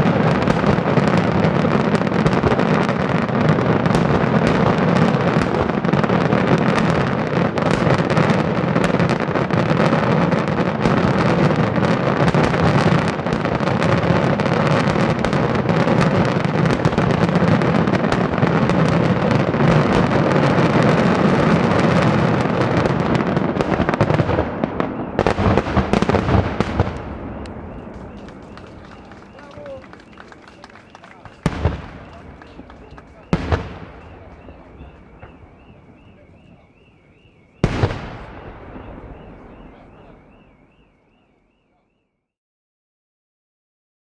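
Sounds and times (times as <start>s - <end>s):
fireworks bangs and crackling: 0.0s - 41.7s.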